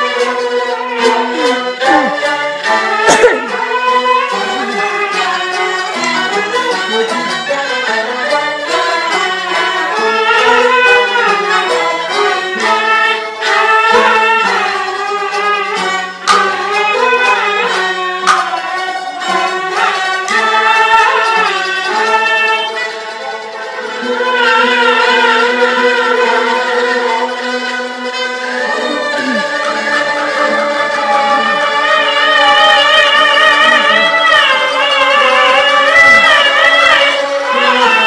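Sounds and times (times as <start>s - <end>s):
fiddle playing ornamented melody: 0.0s - 38.0s.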